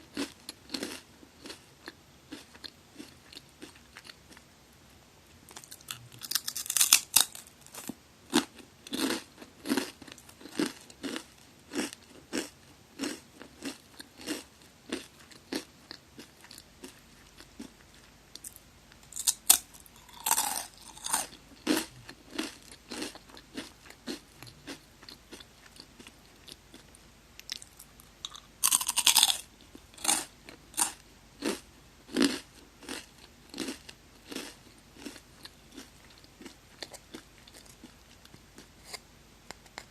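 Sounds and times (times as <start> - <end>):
rhythmic chewing: 0.0 - 4.6, 5.4 - 39.9
crunching bites of rice crackers: 0.1 - 4.4, 5.5 - 17.7, 18.4 - 39.0.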